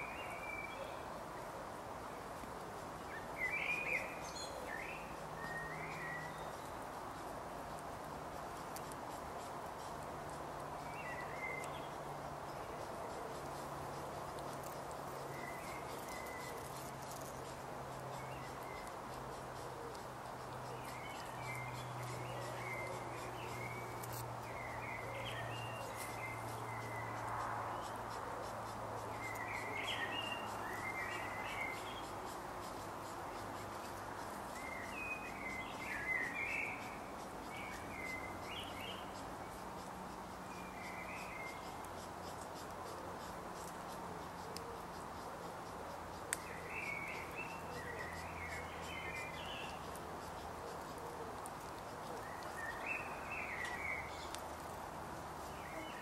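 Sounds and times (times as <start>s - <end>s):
birds chirping: 3.0s - 7.3s, 8.5s - 56.0s.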